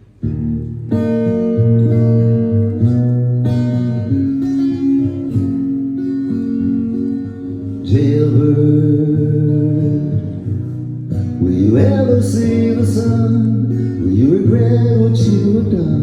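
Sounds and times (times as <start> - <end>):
guitar ringing chords: 0.0 - 16.0.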